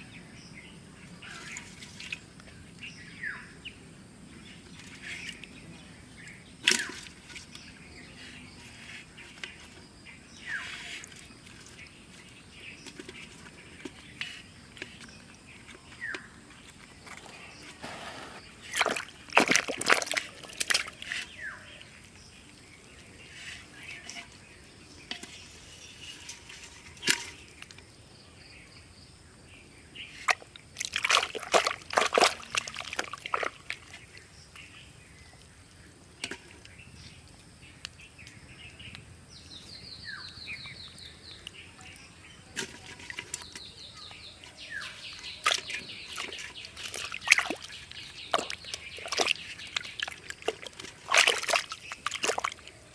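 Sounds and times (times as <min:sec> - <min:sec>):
muddy water sloshing and splashing: 0:01.0 - 0:03.6, 0:04.3 - 0:27.8, 0:30.0 - 0:37.7, 0:40.0 - 0:52.9
water trickling: 0:04.4 - 0:27.8, 0:30.3 - 0:52.9.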